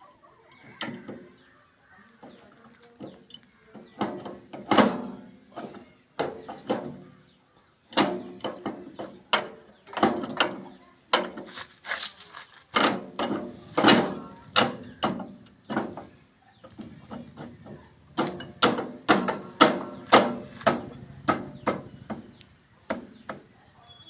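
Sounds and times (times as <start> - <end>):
metal clanks and knocks: 2.2 - 11.6, 12.6 - 23.6.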